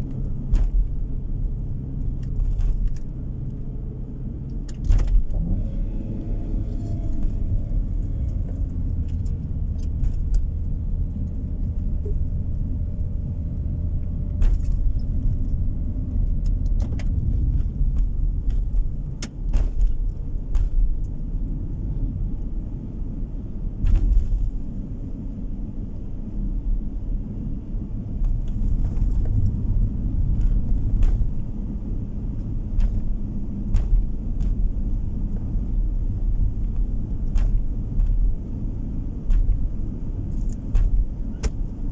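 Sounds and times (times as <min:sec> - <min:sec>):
small rattles and clicks: 0:00.0 - 0:05.4, 0:06.4 - 0:22.6, 0:28.0 - 0:41.9
car cabin road rumble: 0:00.0 - 0:41.9.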